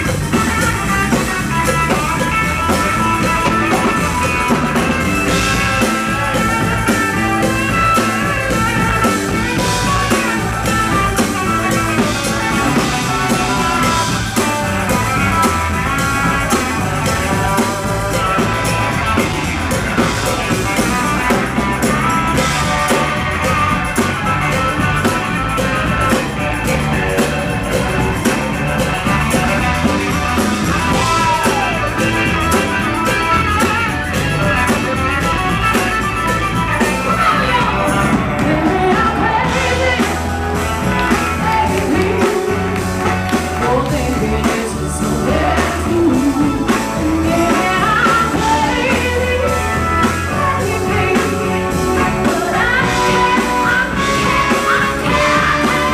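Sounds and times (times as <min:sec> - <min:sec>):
drum kit: 0:00.0 - 0:55.9
electric guitar: 0:00.0 - 0:55.9
soul-rock band playing live: 0:00.0 - 0:55.9.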